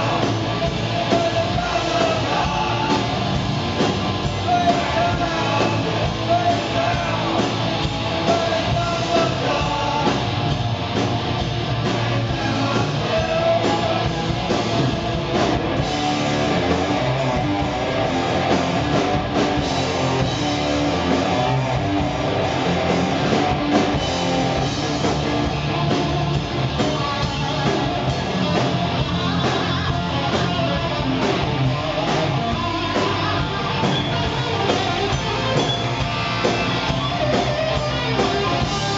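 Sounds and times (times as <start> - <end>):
electric guitar: 0.0 - 38.9
rock band playing live: 0.0 - 38.9.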